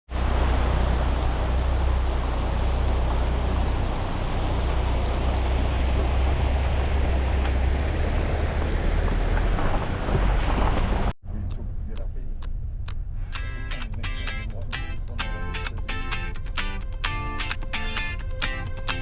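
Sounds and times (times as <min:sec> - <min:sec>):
car road rumble: 0:00.1 - 0:19.0.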